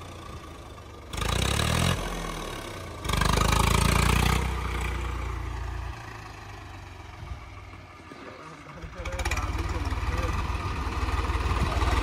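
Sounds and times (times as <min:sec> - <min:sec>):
tractor diesel engine surging: 0:00.0 - 0:12.0.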